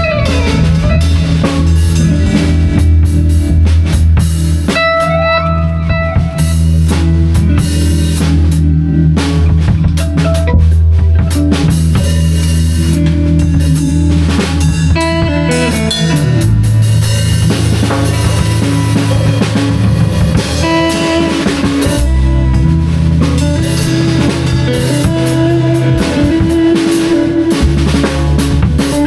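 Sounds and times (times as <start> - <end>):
drum kit beat: 0.0 - 29.0
guitar: 0.0 - 29.0
low held notes: 0.0 - 29.0.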